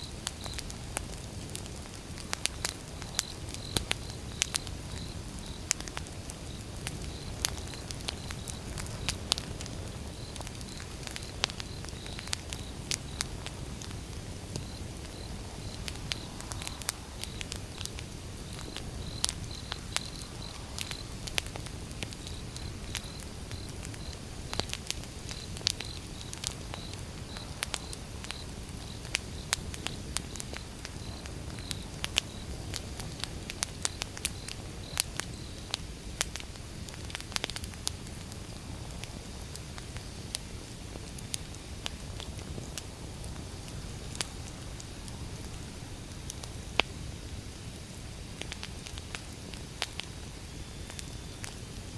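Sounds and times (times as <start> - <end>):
firewood crackling and popping: 0.0 - 51.9
low rush of fire: 0.1 - 51.9.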